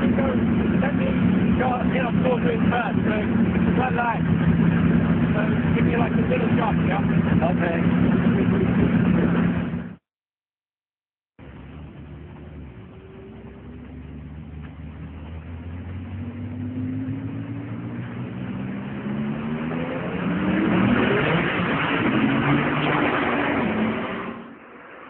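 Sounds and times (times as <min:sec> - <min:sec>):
car engine accelerating: 0:00.0 - 0:10.0, 0:11.4 - 0:25.0.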